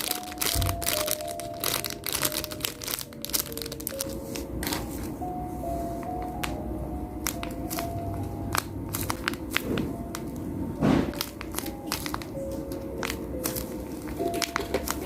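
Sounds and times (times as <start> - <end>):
plastic packaging crinkling: 0.0 - 5.2, 7.2 - 15.0
faint background music: 0.0 - 15.0.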